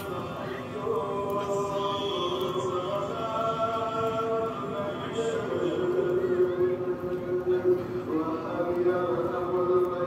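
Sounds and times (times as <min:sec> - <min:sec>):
person chanting in long notes: 0:00.0 - 0:10.0.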